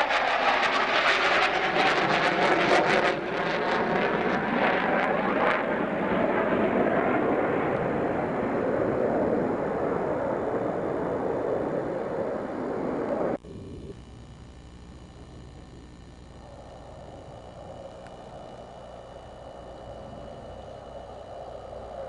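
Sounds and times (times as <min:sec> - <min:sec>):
fighter jet engine roaring: 0:00.0 - 0:22.0.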